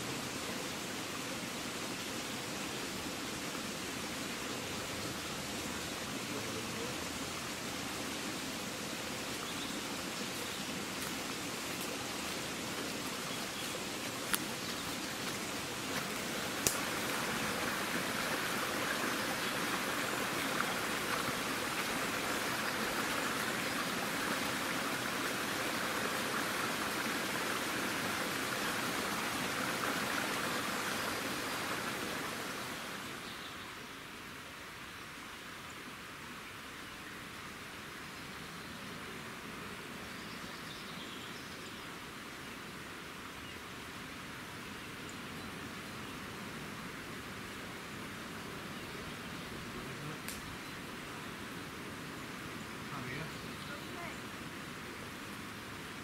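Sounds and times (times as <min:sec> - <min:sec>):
stream rushing: 0:00.0 - 0:38.1, 0:42.0 - 0:56.0.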